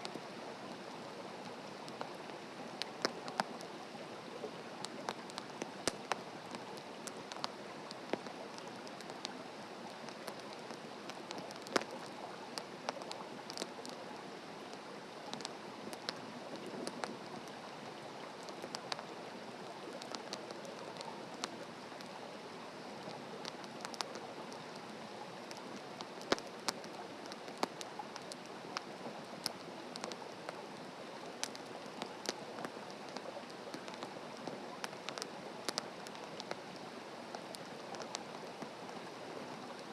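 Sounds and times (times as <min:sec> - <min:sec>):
wood fire crackling and popping: 0:00.0 - 0:22.2, 0:23.0 - 0:39.9.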